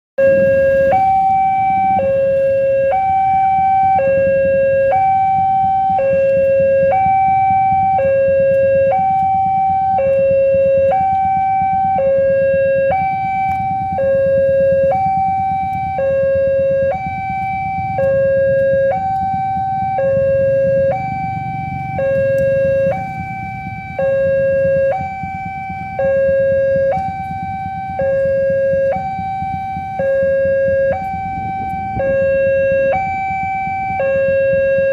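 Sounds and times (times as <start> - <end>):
two-tone level crossing alarm: 0.2 - 34.9.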